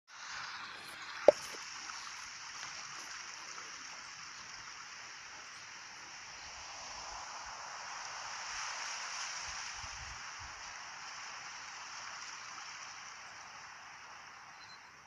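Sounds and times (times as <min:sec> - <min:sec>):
steady outdoor hiss: 0:00.1 - 0:15.0.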